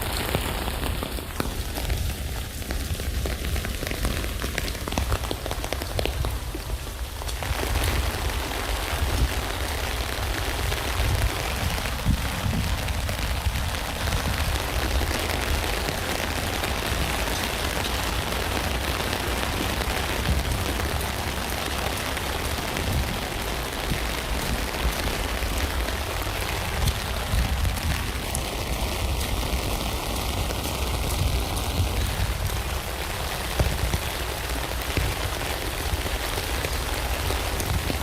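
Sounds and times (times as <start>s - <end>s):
rain on a tent: 0.0s - 38.0s.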